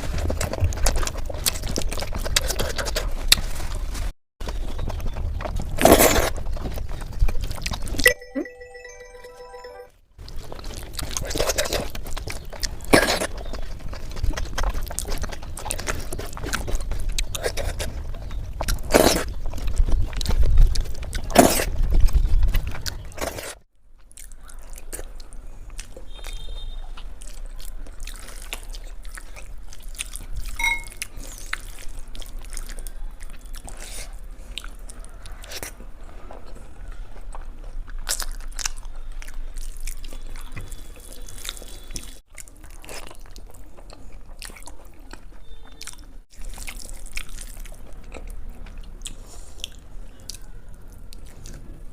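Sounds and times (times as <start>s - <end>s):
crunchy chewing and biting: 0.0s - 8.0s, 10.2s - 51.9s.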